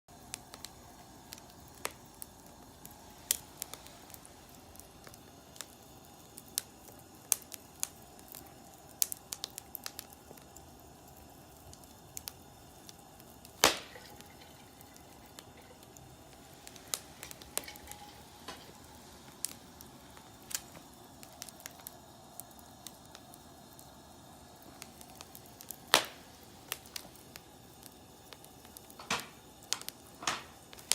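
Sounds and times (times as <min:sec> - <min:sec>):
wood fire crackling: 0:00.1 - 0:30.9
loud fire pops: 0:00.2 - 0:10.6, 0:11.5 - 0:23.8, 0:24.6 - 0:30.9.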